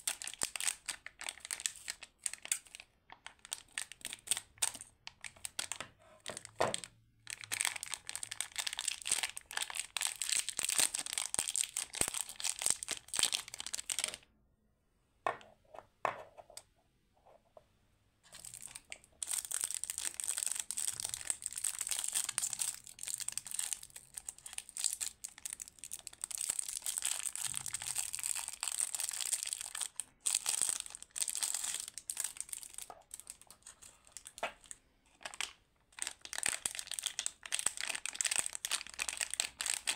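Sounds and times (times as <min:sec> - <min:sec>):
plastic wrappers crinkling and tearing: 0:00.0 - 0:14.2, 0:18.3 - 0:39.9.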